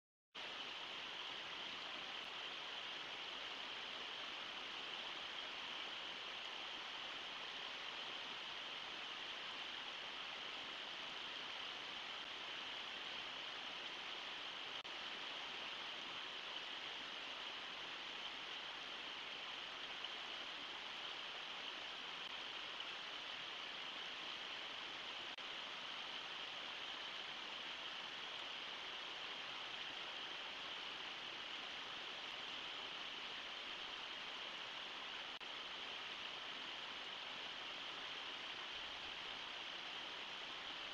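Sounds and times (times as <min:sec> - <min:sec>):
river water rushing over waterfall: 0:00.4 - 0:40.9.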